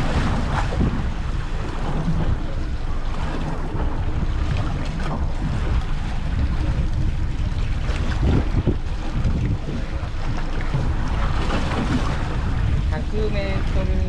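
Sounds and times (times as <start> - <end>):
water washing under boat: 0.0 - 14.0
wind buffeting microphone: 0.0 - 14.0.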